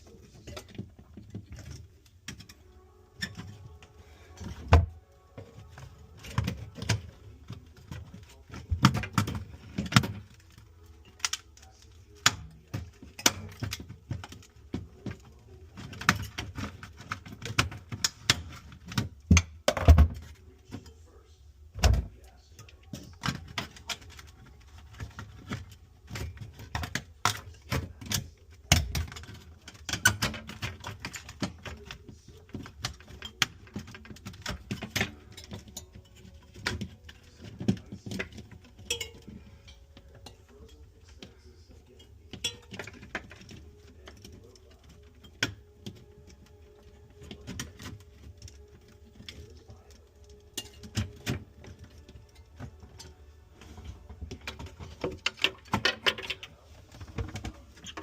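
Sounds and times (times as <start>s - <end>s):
clicks and rattles of tools: 0.1s - 21.0s, 22.3s - 58.0s.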